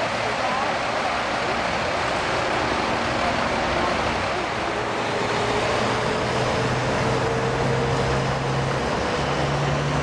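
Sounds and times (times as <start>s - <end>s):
passing truck hum: 0.0s - 10.0s
rush of tyres and wind: 0.0s - 10.0s.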